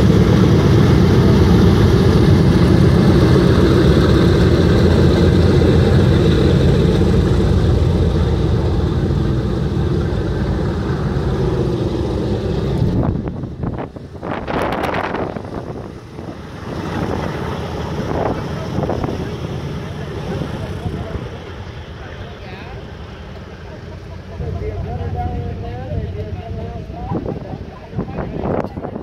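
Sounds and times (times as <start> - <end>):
wind buffeting microphone: 0.0 - 21.5, 24.4 - 29.0
propeller engines droning: 0.0 - 29.0.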